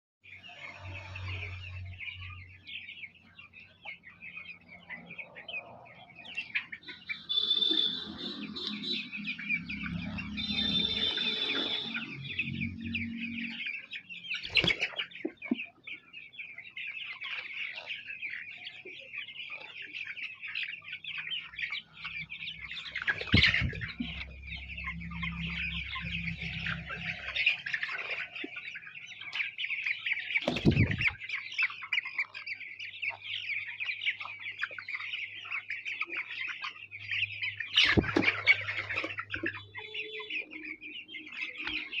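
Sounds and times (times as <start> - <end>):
chicks peeping: 0.2 - 42.0.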